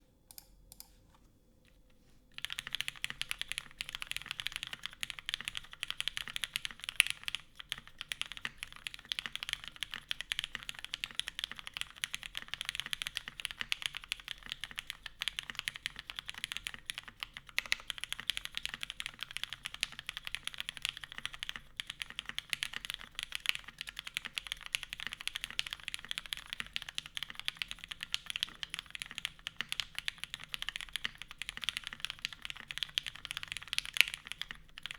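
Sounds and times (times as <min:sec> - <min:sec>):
typing on mechanical keyboard: 0:02.4 - 0:34.9.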